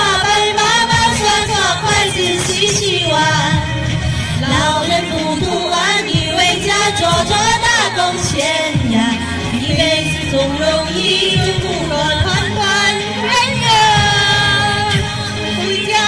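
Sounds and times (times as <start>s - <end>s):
backing music: 0.0s - 16.0s
women singing amplified: 0.0s - 16.0s.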